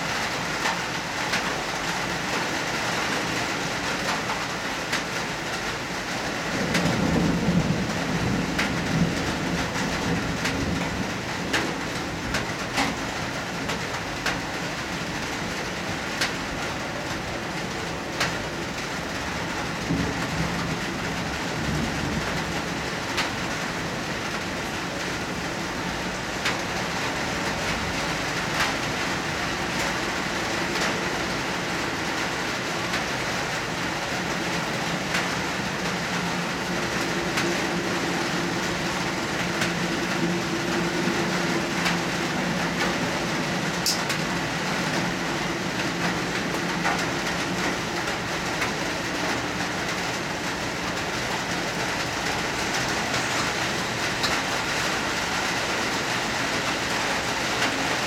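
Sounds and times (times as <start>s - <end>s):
heavy rain pouring: 0.0s - 58.0s
raindrops ticking close by: 0.0s - 58.0s.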